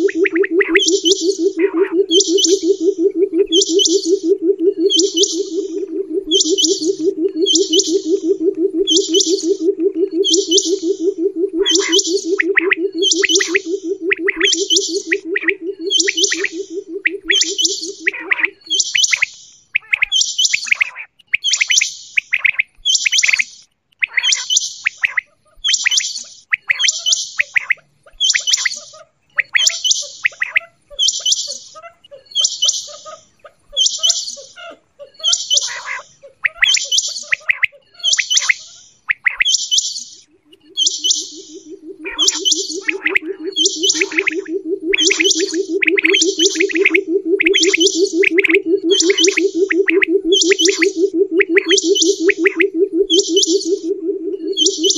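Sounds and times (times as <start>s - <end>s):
quail calling: 0.0s - 21.7s, 24.0s - 39.6s, 40.2s - 54.9s.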